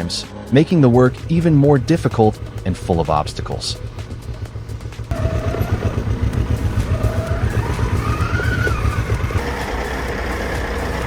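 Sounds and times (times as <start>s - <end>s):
truck diesel engine throbbing: 0.0s - 11.0s.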